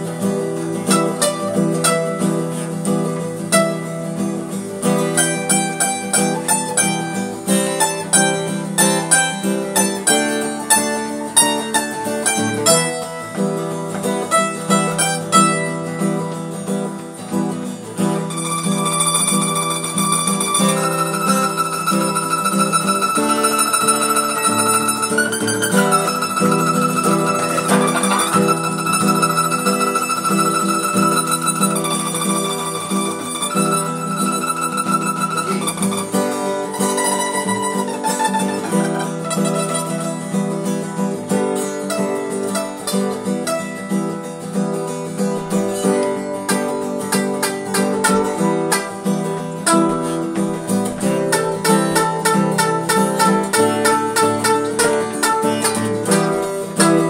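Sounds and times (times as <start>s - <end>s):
acoustic guitar strumming: 0.0s - 57.0s
mandolin picking lead: 0.0s - 57.0s.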